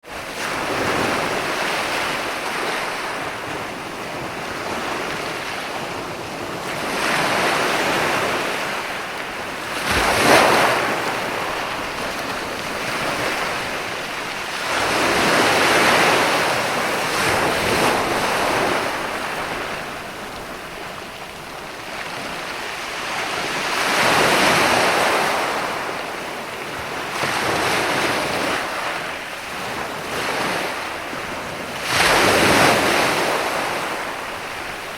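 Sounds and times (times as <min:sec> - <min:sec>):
ocean waves breaking: 0:00.0 - 0:34.9.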